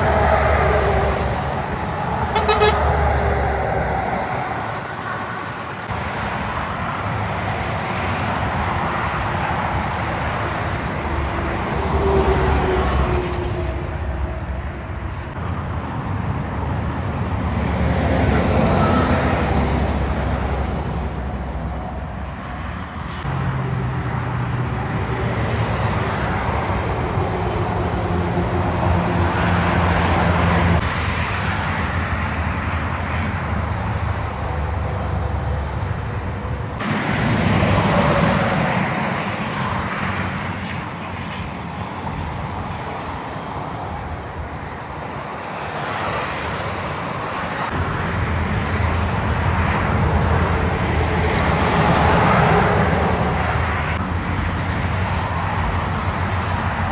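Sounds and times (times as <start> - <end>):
diesel trucks driving past: 0.0 - 56.9.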